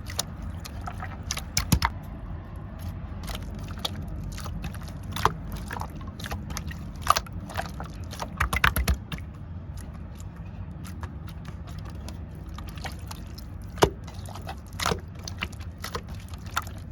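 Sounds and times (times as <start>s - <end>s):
slime squished by hand: 0.0s - 1.9s, 2.8s - 16.9s
low hum: 0.0s - 16.9s.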